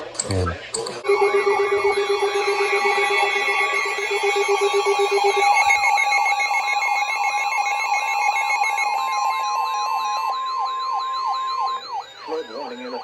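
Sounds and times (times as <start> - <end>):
low pulsing beep: 1.0 - 13.0
steady alert tones: 1.0 - 13.0
warbling electronic sweep: 1.0 - 13.0.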